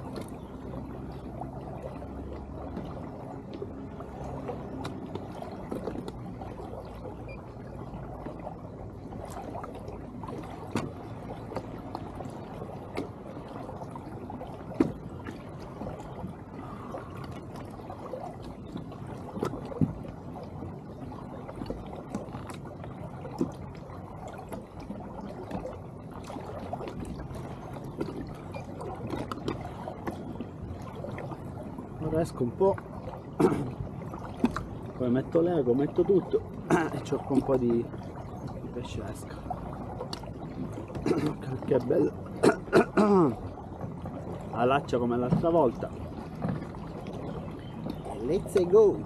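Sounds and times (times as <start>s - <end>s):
water lapping against a hull: 0.0s - 49.0s.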